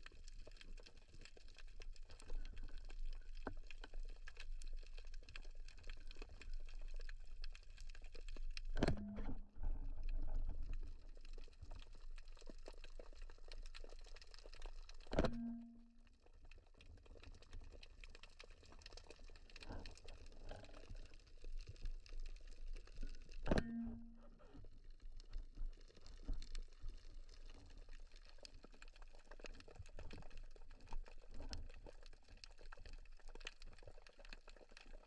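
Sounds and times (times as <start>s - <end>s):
underwater low rumble: 0.0s - 34.8s.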